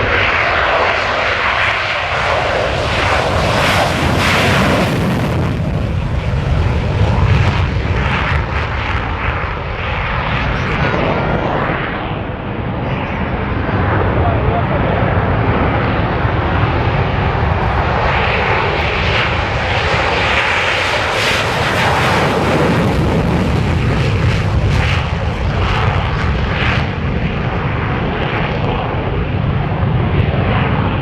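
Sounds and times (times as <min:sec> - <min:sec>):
aircraft engines passing: 0:00.0 - 0:31.0.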